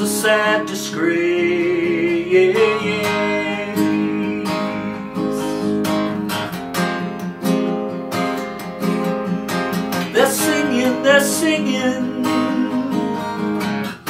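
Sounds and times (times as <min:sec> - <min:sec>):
acoustic guitar strummed: 0:00.0 - 0:14.0.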